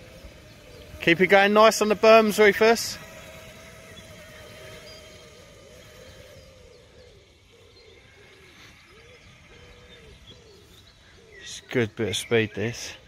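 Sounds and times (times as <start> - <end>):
electric motorbike motor whine: 0.0 - 11.5
faint bird chirps: 1.9 - 13.0.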